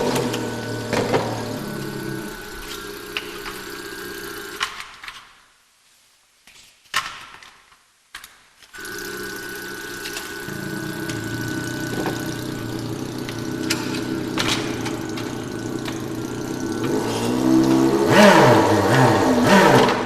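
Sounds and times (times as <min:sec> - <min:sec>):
synthesized model car engine: 0:00.0 - 0:04.9, 0:08.8 - 0:20.0.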